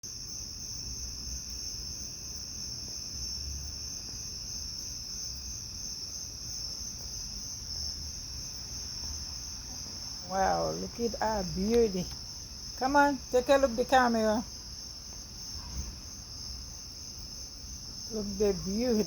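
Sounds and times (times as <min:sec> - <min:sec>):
high-pitched insect chorus: 0:00.1 - 0:19.0.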